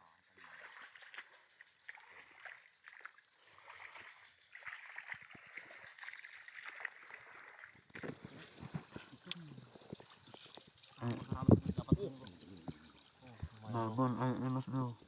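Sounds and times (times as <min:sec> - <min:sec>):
legs wading through water: 0:00.2 - 0:15.0.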